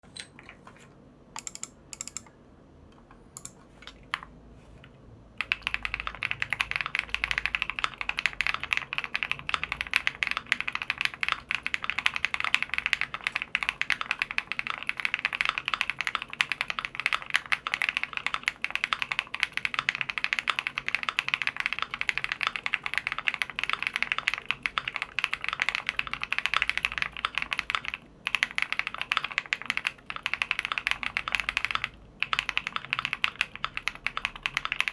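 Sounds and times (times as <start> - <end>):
mechanical keyboard typing: 1.4 - 2.3, 3.4 - 4.3, 5.4 - 34.9.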